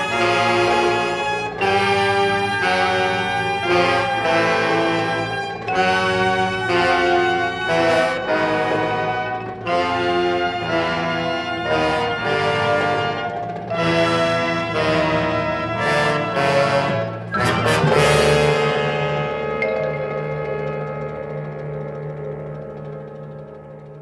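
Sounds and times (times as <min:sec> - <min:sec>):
orchestral brass chords: 0:00.0 - 0:24.0.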